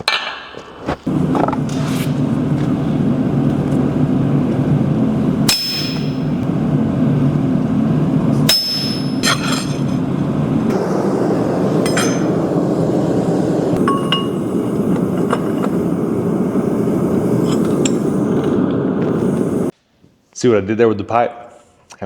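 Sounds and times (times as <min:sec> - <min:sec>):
steady low rumble: 0:01.0 - 0:19.7.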